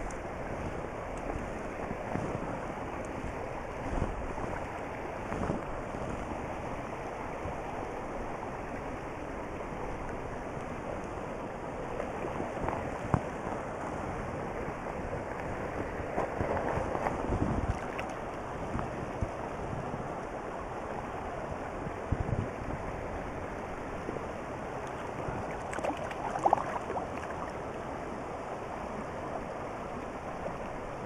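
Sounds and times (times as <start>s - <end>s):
stream running over stones: 0.0s - 31.0s.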